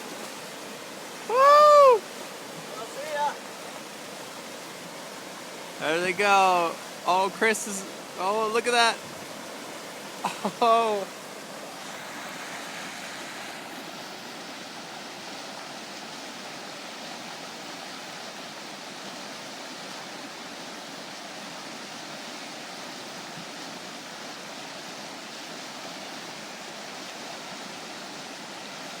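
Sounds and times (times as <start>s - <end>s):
water rushing over rapids: 0.0s - 29.0s.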